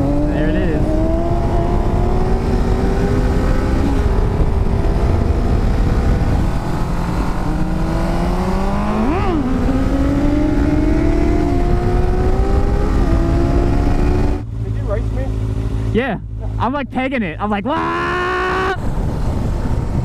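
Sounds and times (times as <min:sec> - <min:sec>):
motorcycle engine accelerating: 0:00.0 - 0:20.0
wind and road noise: 0:00.0 - 0:20.0.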